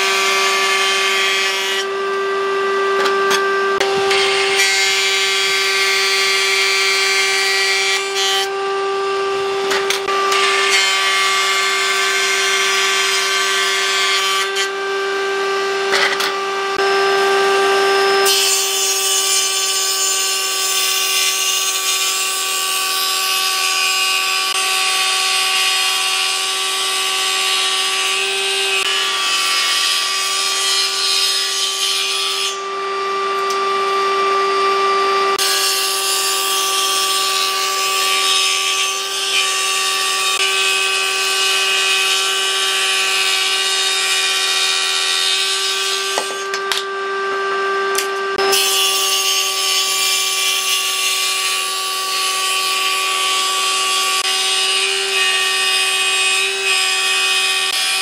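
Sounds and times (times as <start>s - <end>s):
saw rasping through wood: 0.0s - 2.3s, 3.0s - 14.9s, 18.2s - 34.5s, 35.3s - 46.6s, 48.4s - 58.0s
table saw blade whine: 0.0s - 58.0s.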